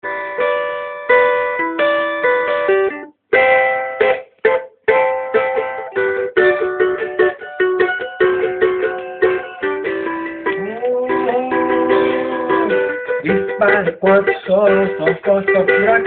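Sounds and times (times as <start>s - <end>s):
plucked and strummed cavaquinho: 0.0s - 16.0s.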